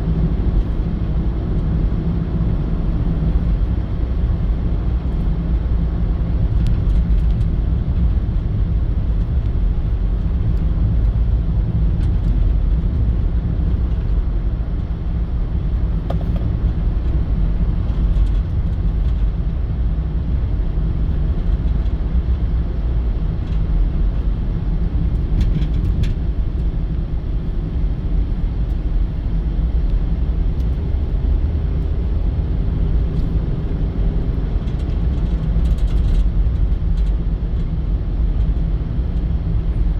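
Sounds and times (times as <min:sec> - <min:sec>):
vehicle road and engine rumble: 0:00.0 - 0:39.9.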